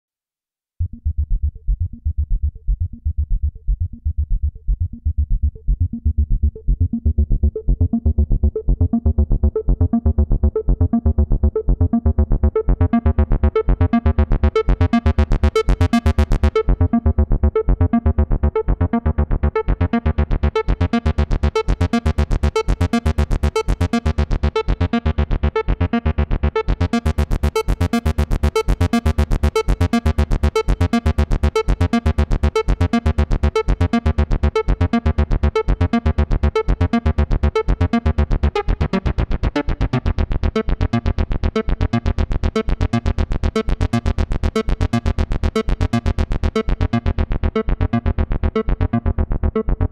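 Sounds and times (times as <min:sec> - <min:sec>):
synthesizer bass line: 0:00.8 - 0:49.9.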